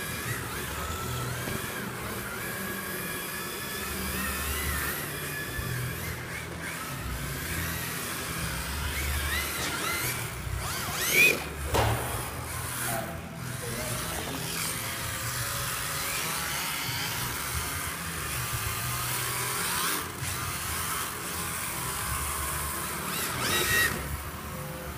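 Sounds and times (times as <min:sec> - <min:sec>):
rc car electric motors whining: 0:00.0 - 0:24.9.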